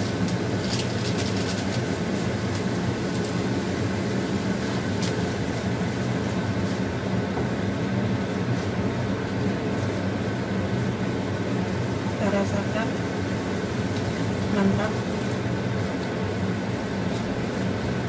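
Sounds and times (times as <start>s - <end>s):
machine hum with hiss: 0.0s - 18.0s.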